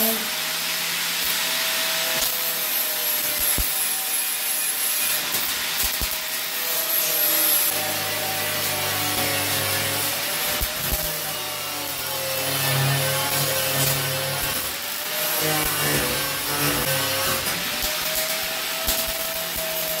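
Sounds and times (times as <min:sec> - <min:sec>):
power grinder grinding steel: 0:00.0 - 0:20.0.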